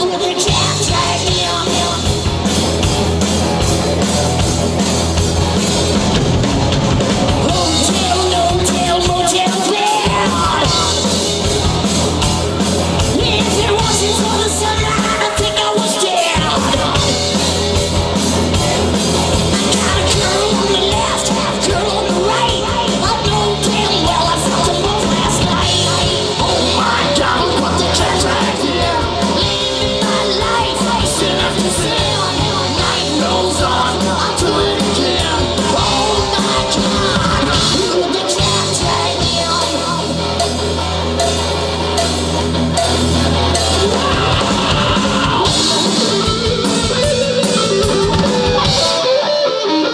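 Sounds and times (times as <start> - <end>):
singer shouting and singing: 0.0 - 2.5, 7.1 - 49.9
bass guitar: 0.0 - 49.9
drum kit: 0.0 - 49.9
electric guitar: 0.0 - 49.9.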